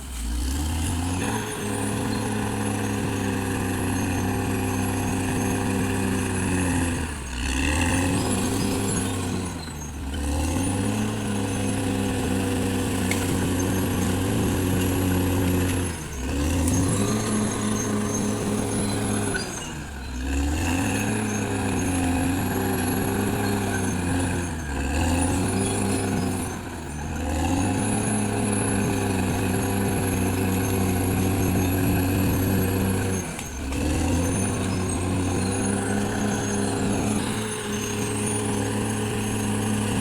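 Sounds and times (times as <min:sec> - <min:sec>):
bulldozer diesel engine working: 0:00.0 - 0:40.0
high engine whine: 0:00.0 - 0:40.0.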